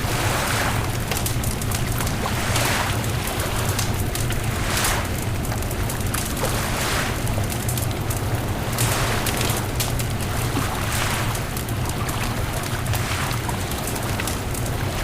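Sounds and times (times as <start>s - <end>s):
surf washing in: 0.0s - 15.0s
bonfire crackling and popping: 0.8s - 6.5s, 7.1s - 15.0s.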